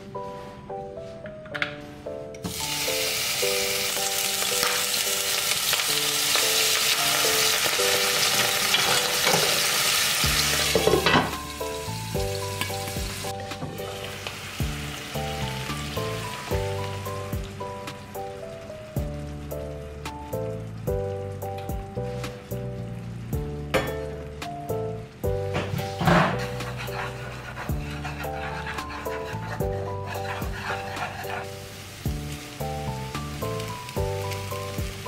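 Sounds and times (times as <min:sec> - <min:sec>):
hot oil sizzling and spattering: 0:02.5 - 0:23.7, 0:25.2 - 0:35.0.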